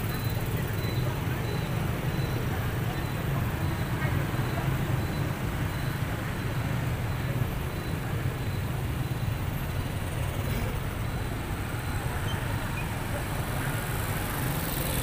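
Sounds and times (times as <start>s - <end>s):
traffic driving past: 0.0s - 15.0s.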